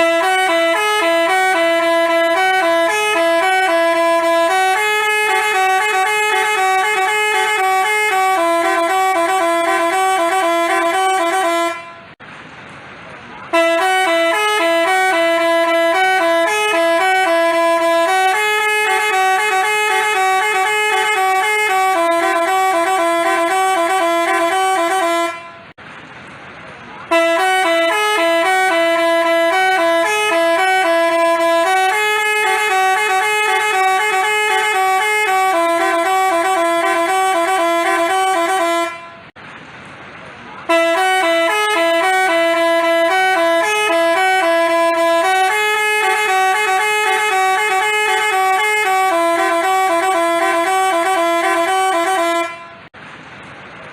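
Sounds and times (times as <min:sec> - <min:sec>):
multi-tone horn playing tune: 0:00.0 - 0:12.2, 0:13.5 - 0:25.8, 0:27.1 - 0:39.4, 0:40.7 - 0:52.9.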